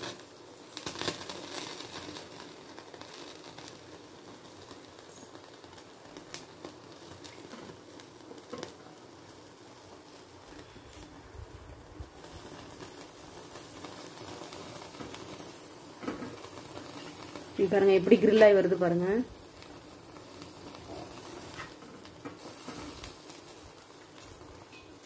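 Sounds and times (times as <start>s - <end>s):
gas burner hissing: 0.0s - 25.0s
skewers crackling on flame: 0.0s - 25.0s.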